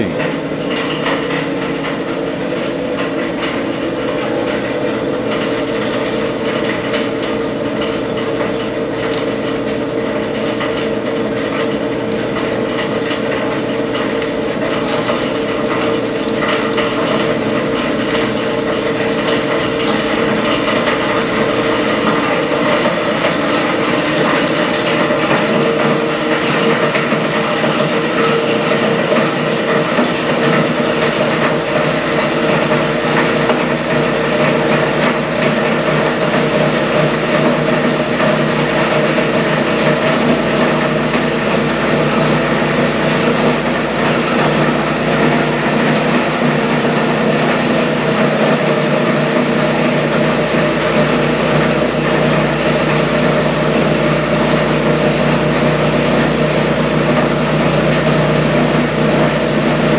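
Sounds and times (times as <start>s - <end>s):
shredder mechanical hum: 0.0s - 59.9s.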